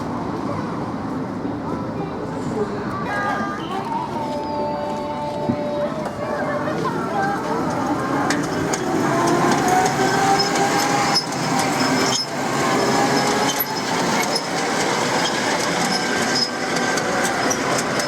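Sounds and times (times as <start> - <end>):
tram rumbling along track: 0.0 - 18.0.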